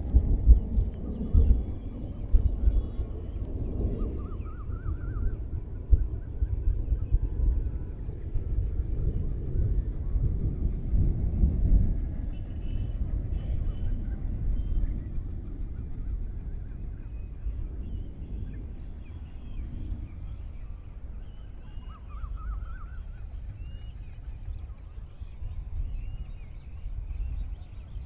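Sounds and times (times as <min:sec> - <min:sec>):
low rumble: 0:00.0 - 0:28.0
bird calls: 0:00.5 - 0:09.8, 0:12.0 - 0:28.0.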